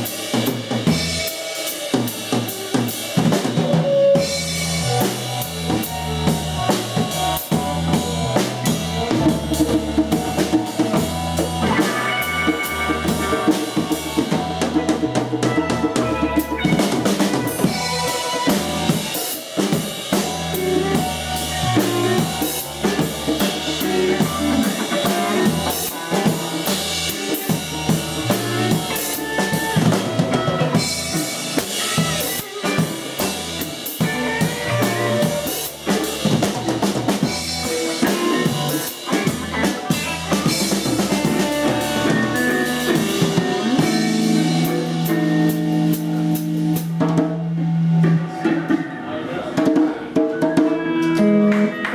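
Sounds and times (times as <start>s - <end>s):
drum kit: 0.0s - 51.9s
live band playing: 0.0s - 51.9s.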